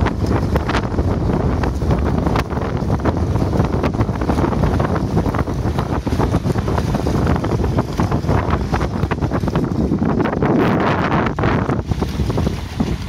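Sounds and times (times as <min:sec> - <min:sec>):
splashing through shallow water: 0:00.0 - 0:13.0
wind buffeting microphone: 0:00.0 - 0:13.0.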